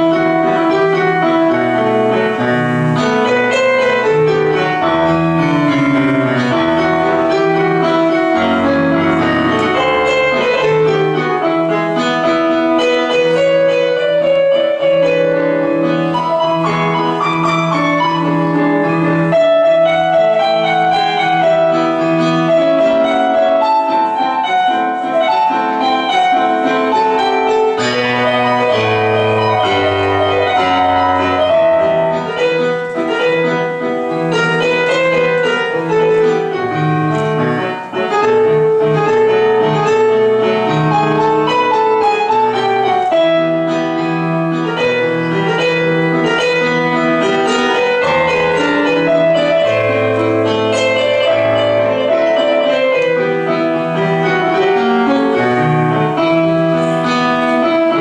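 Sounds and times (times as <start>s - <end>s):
piano music: 0.0s - 58.0s.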